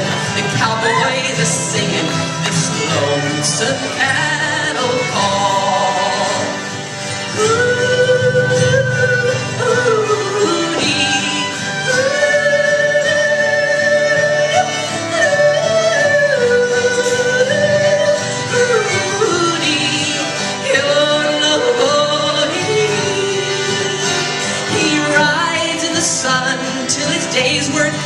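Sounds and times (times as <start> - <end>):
person yodeling: 0.0 - 6.6, 7.4 - 28.0
acoustic bluegrass band: 0.0 - 28.0.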